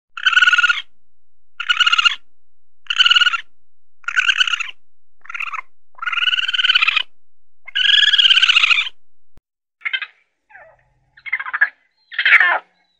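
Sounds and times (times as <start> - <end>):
raccoon calling: 0.2 - 1.0, 1.6 - 9.0, 9.8 - 12.9.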